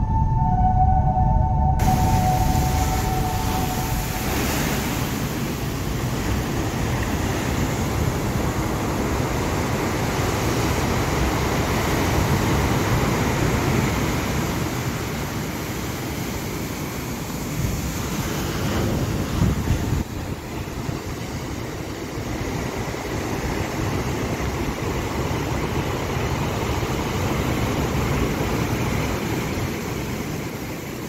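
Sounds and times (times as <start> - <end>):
waves breaking on beach: 1.9 - 31.0.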